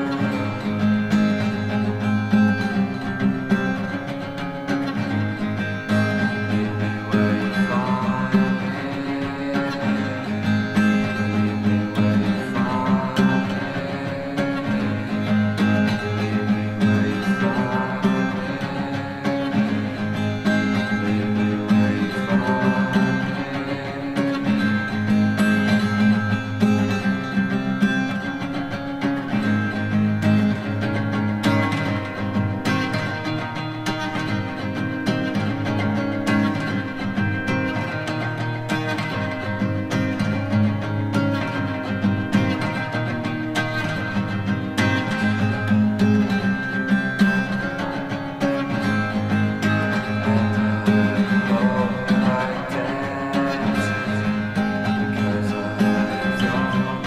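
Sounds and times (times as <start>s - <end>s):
lo-fi pop song with acoustic guitar: 0.0s - 57.0s.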